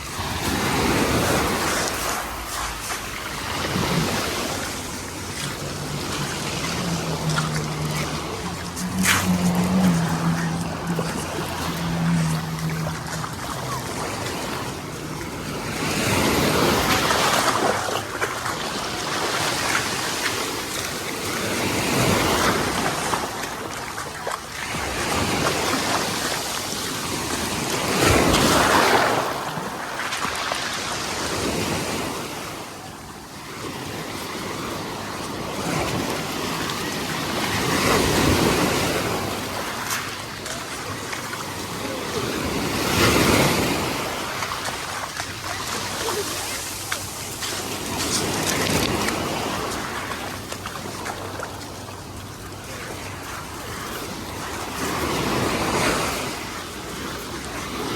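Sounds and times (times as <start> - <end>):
sea waves breaking on beach: 0.0 - 57.9.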